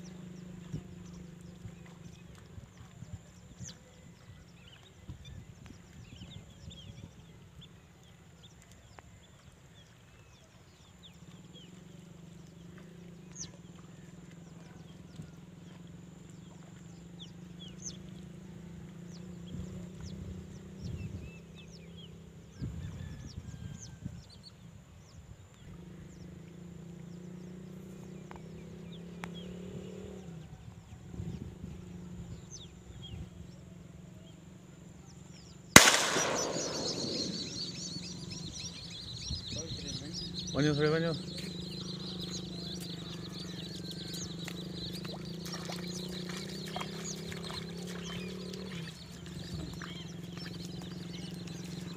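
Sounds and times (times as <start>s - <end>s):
birds chirping: 0.0s - 30.5s, 31.2s - 51.9s.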